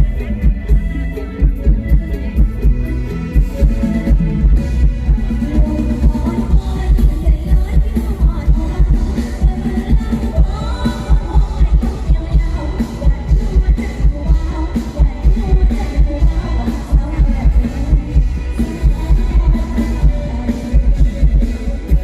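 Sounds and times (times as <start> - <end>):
long-drum ensemble beat: 0.0 - 22.0
person singing: 3.4 - 22.0.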